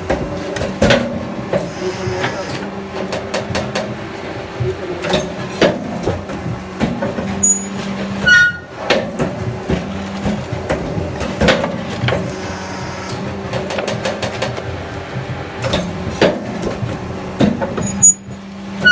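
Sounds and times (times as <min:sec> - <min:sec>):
clanks and knocks: 0:00.0 - 0:18.9
concrete mixer humming: 0:00.0 - 0:18.9.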